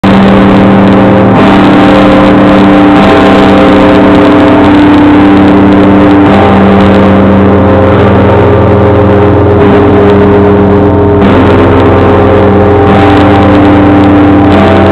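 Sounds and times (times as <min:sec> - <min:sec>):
deep church bell ringing: 0:00.0 - 0:14.9.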